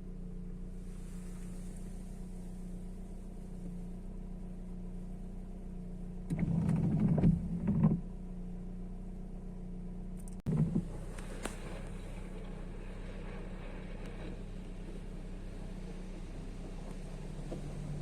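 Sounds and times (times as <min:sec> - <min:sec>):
motor vehicle humming: 0:00.0 - 0:18.0.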